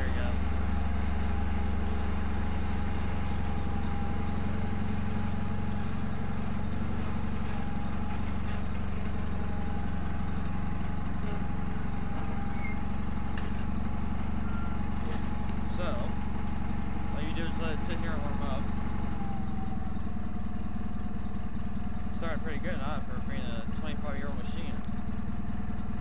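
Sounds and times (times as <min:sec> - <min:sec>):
tractor engine rumbling: 0:00.0 - 0:26.0.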